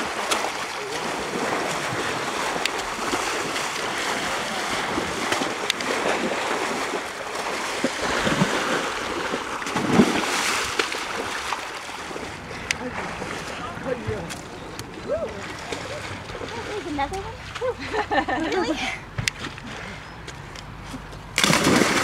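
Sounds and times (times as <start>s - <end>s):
muddy water sloshing: 0.0s - 22.0s.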